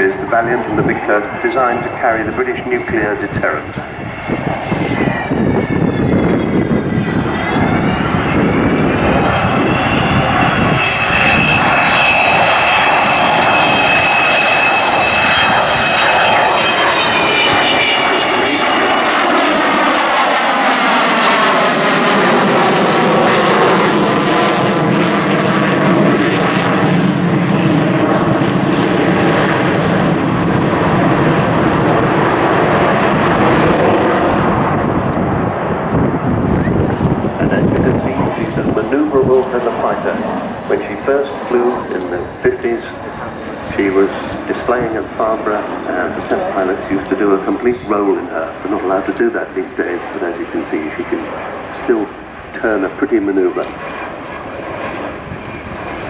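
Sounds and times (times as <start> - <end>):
high engine whine: 0.0 - 56.0
jet engines passing overhead: 0.0 - 56.0.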